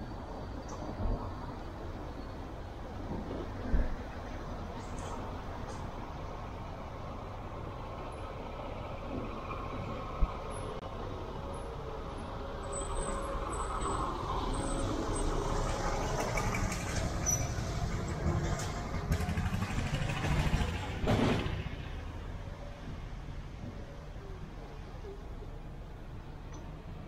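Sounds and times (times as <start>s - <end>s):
traffic going past: 0.0s - 27.0s.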